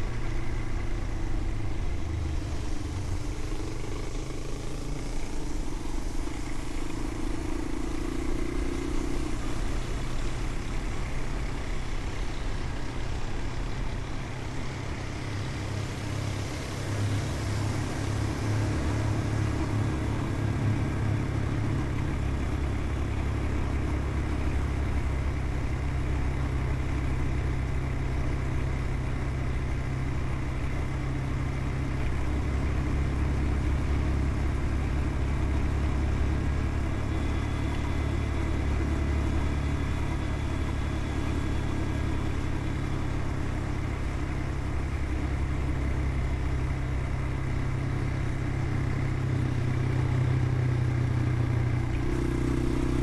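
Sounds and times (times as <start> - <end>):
road and wind rumble: 0.0 - 53.0
vehicle engine running: 0.0 - 53.0.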